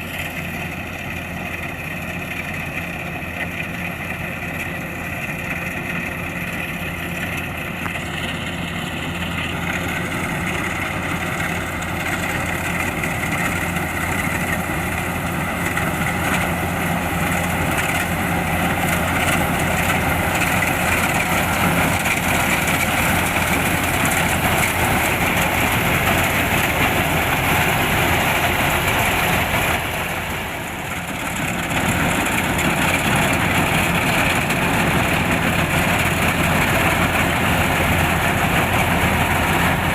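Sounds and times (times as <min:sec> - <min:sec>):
diesel engine running: 0:00.0 - 0:39.9
harvesting machinery clatter: 0:00.0 - 0:39.9.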